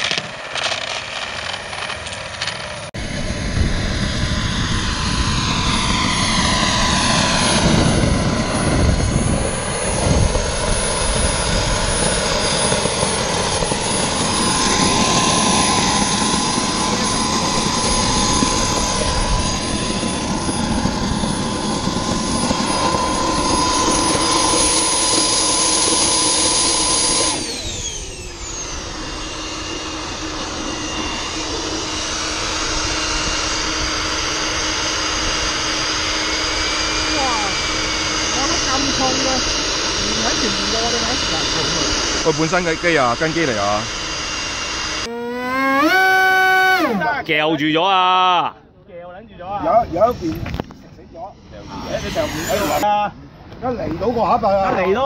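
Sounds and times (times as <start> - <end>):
jet turbine engine whine: 0.0 - 55.0.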